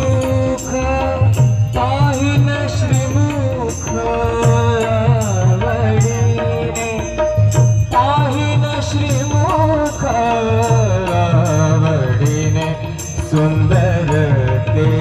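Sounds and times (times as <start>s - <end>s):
person singing devotional song: 0.0s - 15.0s
steady drum beat: 0.0s - 15.0s.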